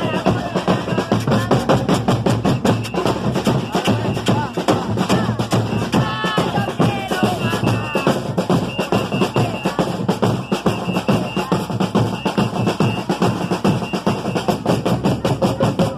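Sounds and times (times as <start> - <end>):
heavy bass drum: 0.0 - 15.9
samba percussion band: 0.0 - 15.9.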